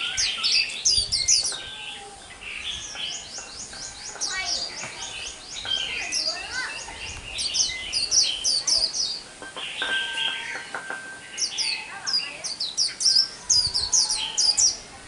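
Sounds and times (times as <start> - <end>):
bird twittering song: 0.0 - 15.0.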